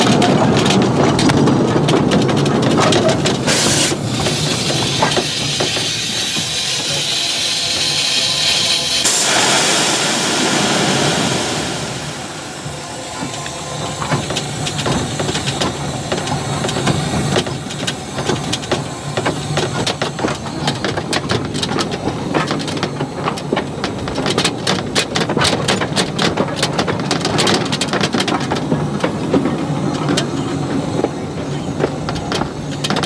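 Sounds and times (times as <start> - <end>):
wheels clicking and clattering: 0.0 - 8.7, 13.1 - 33.0
steam locomotive rumble and hiss: 0.0 - 33.0.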